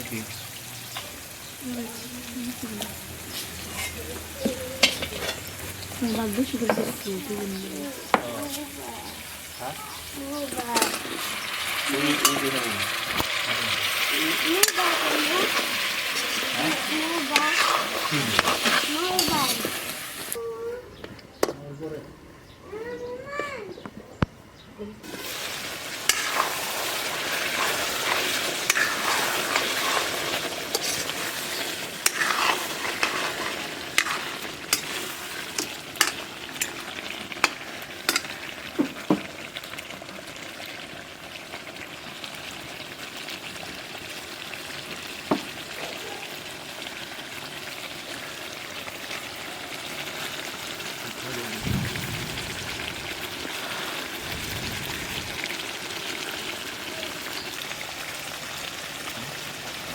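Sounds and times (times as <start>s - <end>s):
food sizzling in oil: 0.0s - 20.4s, 25.0s - 59.9s.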